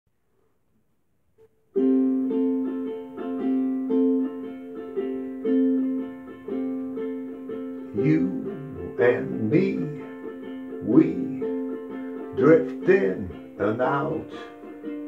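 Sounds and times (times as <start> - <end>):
ukulele strumming chords: 1.4 - 15.0.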